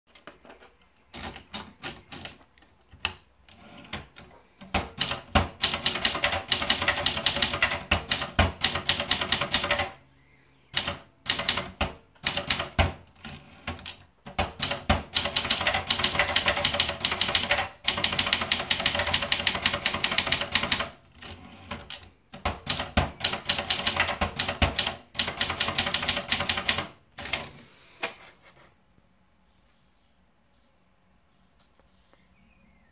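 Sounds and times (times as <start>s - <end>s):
manual typewriter typing: 0.1s - 10.0s, 10.7s - 27.6s.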